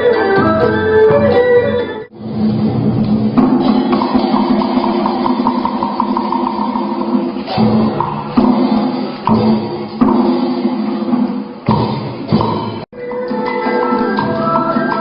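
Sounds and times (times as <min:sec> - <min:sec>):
drum strikes: 0:02.1 - 0:15.0.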